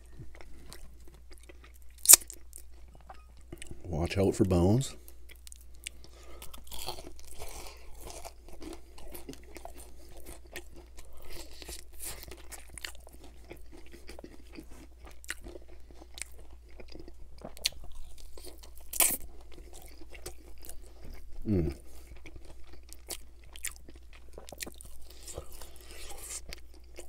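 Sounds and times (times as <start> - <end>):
crunching fried chicken: 0.0 - 2.9, 5.3 - 27.0.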